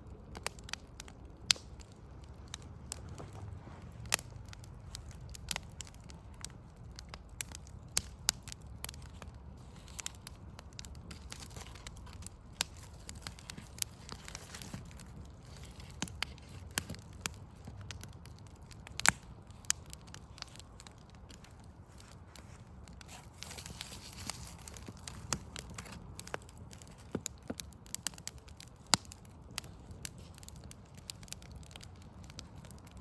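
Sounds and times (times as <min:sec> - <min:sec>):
fire popping and snapping: 0:00.0 - 0:33.0
wood fire crackling: 0:00.0 - 0:33.0.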